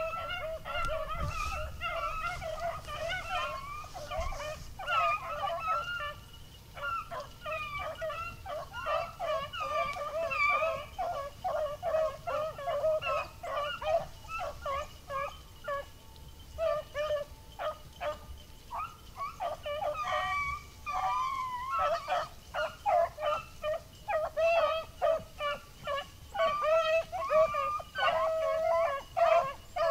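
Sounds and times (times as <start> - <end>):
beagles baying: 0.0 - 29.9.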